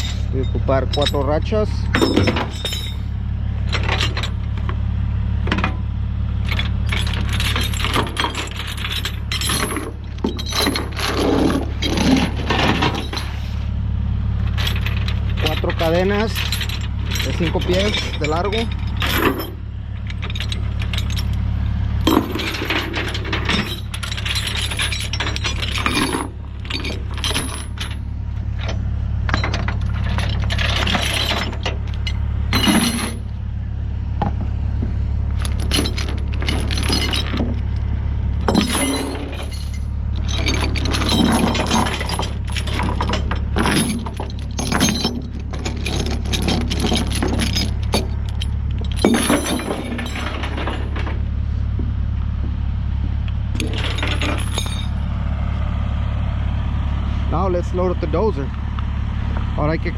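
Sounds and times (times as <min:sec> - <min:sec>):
metal chains clanking: 0:00.0 - 0:13.5, 0:14.2 - 0:33.4, 0:35.3 - 0:51.4, 0:53.2 - 0:55.2
steady low hum: 0:00.0 - 0:59.9.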